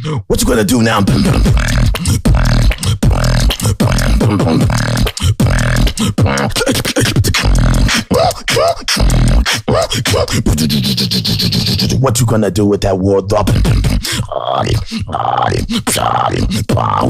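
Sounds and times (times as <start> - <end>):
beatboxing: 0.0 - 17.0.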